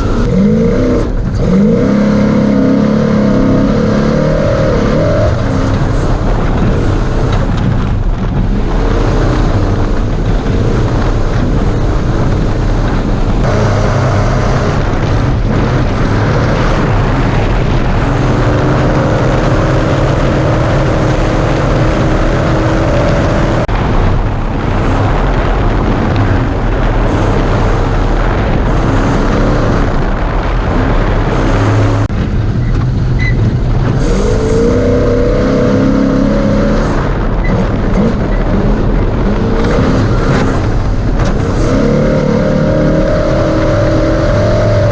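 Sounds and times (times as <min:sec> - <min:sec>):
race truck engine revving: 0:00.0 - 0:44.9
tyres rumbling on rough ground: 0:00.0 - 0:44.9.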